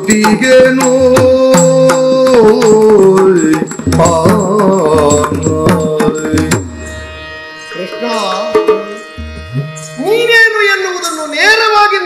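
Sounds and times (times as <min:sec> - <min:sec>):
busy drumming: 0:00.0 - 0:06.9, 0:08.0 - 0:11.6.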